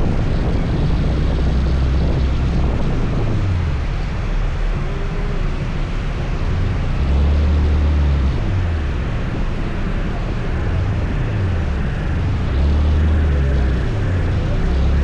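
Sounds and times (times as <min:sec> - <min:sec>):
wind rumble buffeting microphone: 0:00.0 - 0:15.0.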